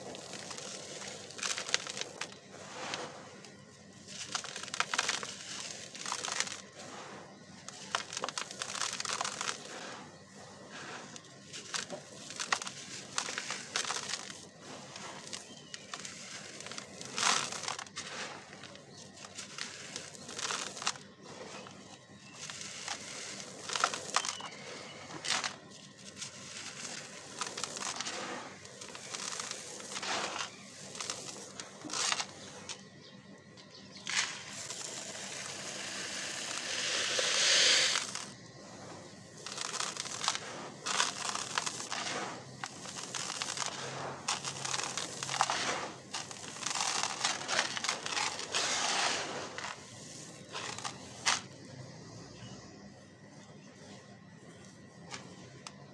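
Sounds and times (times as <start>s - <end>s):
dirt pouring hiss: 0.0s - 32.9s, 33.9s - 55.9s
dirt crunching and rustling by hand: 0.0s - 55.9s.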